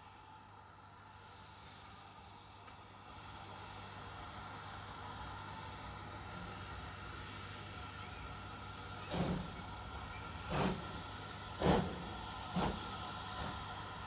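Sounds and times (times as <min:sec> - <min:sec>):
locomotive running: 0:00.0 - 0:14.0.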